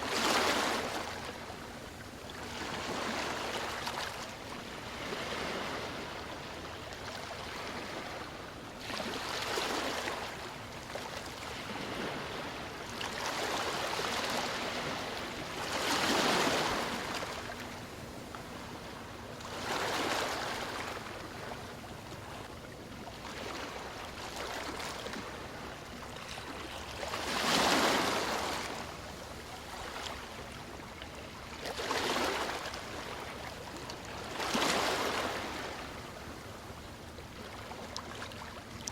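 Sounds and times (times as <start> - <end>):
ocean waves breaking on beach: 0.0 - 22.5, 23.2 - 37.7.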